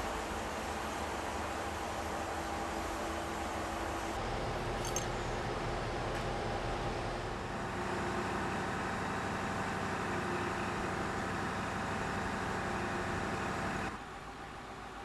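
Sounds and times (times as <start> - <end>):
heavy machinery engine drone: 0.0 - 14.0.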